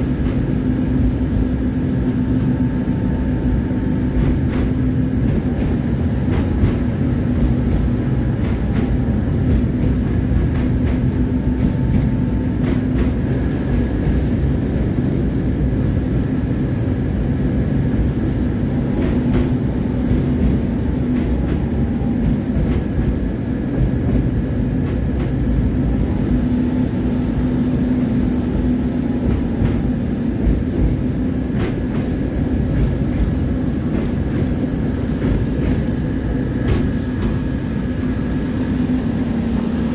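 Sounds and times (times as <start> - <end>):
tram rumbling on rails: 0.0 - 39.9.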